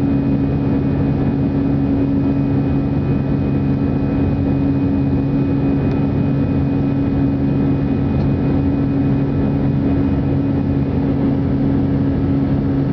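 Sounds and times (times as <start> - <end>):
jet engines droning: 0.0 - 12.9.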